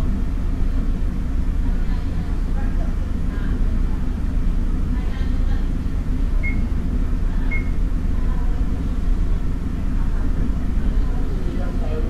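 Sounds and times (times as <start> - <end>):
diesel railcar rumble from inside: 0.0 - 12.0.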